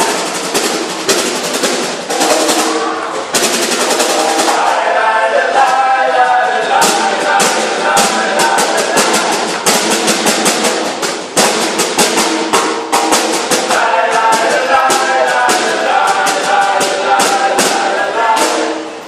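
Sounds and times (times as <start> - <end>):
acoustic folk band playing: 0.0 - 19.0.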